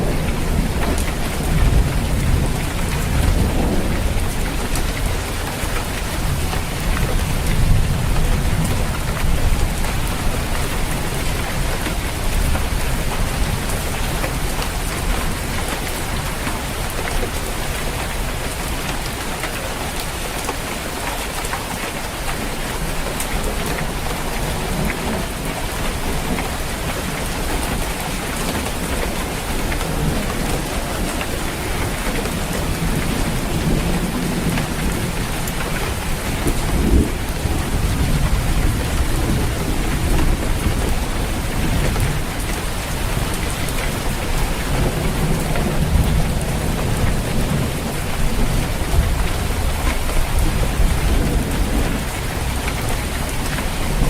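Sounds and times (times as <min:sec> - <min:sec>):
thunder rumbling: 0:00.0 - 0:17.0, 0:22.8 - 0:54.0
heavy rain on a roof: 0:00.0 - 0:54.0.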